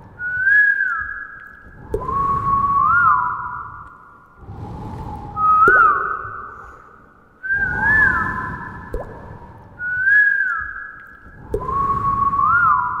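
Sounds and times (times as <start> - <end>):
water-drop plinks: 0.0 - 13.0
whistled wind-like tones: 0.0 - 13.0.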